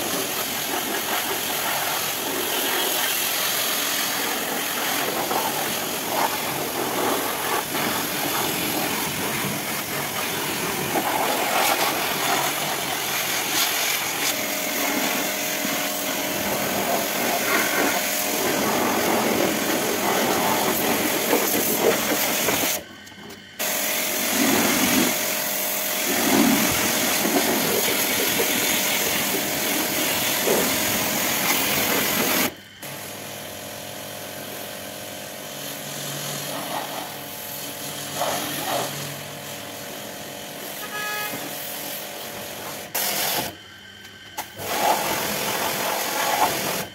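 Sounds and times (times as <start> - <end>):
pressure washer spraying: 0.0 - 22.8, 23.6 - 43.6, 44.4 - 46.9.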